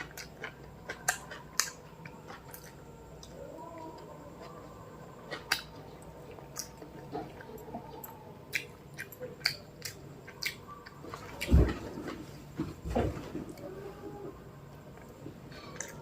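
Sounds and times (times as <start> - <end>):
person chewing food: 0.0 - 12.6, 13.5 - 16.0.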